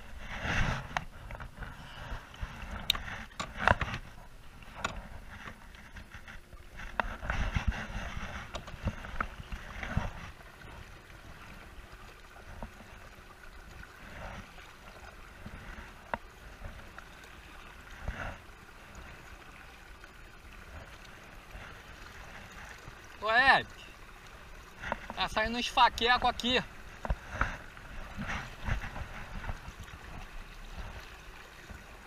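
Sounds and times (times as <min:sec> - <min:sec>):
water lapping against kayak hull: 0:00.0 - 0:32.0
knocks and clicks from boat: 0:00.1 - 0:32.0.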